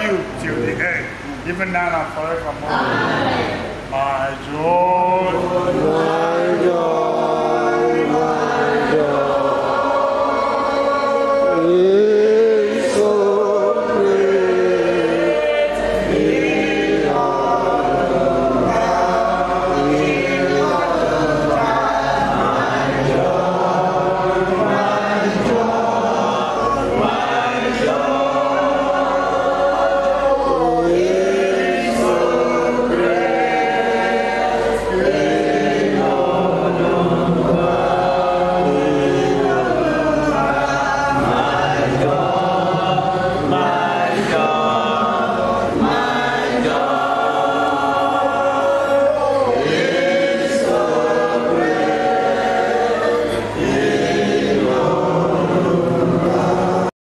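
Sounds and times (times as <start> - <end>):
congregation singing a hymn: 0.0 - 56.9.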